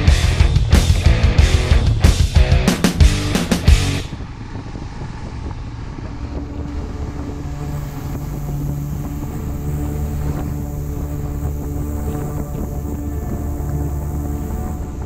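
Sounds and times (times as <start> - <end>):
music: 0.0 - 4.1, 6.6 - 15.0
vehicle engine running: 0.0 - 15.0
wind noise on microphone: 0.0 - 15.0.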